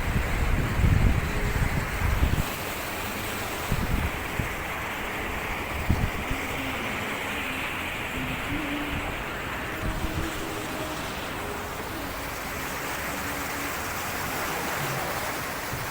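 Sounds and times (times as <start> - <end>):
sea surf washing onto beach: 0.0 - 15.9
wind buffeting microphone: 0.0 - 15.9.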